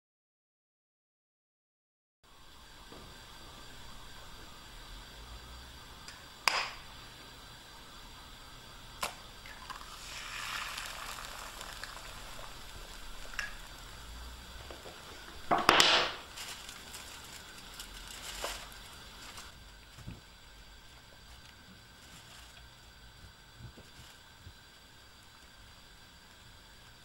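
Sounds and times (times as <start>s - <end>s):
egg sizzling in pan: 2.3s - 27.0s.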